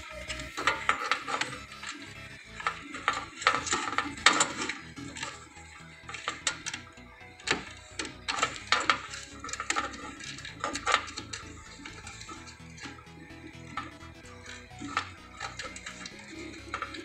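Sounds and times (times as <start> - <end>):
wires clicking and clattering: 0.0 - 17.0.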